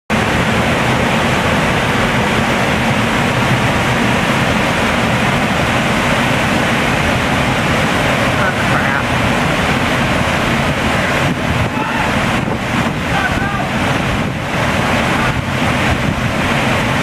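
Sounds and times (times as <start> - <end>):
waterfall rushing: 0.1 - 17.0.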